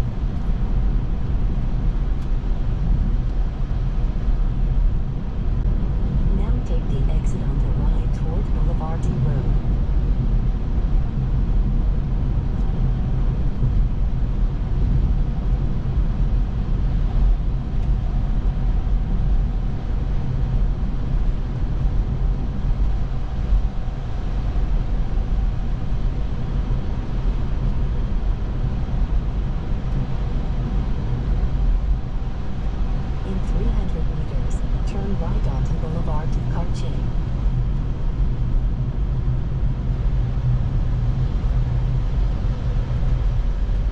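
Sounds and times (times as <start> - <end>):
road and tyre rumble: 0.0 - 43.9.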